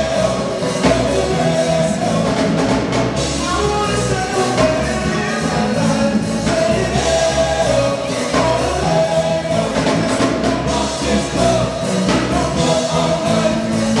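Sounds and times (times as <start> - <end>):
drums: 0.0 - 14.0
keyboards: 0.0 - 14.0
lead vocals: 0.0 - 14.0
live band playing dance song: 0.0 - 14.0.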